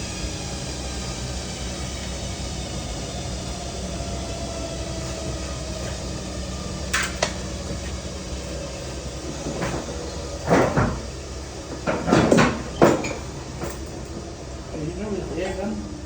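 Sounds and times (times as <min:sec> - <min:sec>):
workshop hum: 0:00.0 - 0:16.0.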